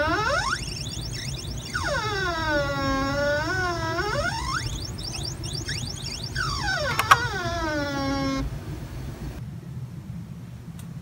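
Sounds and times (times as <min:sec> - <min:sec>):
winch motor whining: 0:00.0 - 0:09.4.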